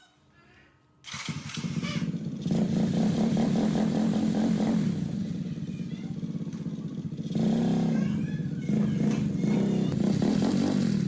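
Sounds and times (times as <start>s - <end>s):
small motorbike engine running: 1.1s - 11.0s.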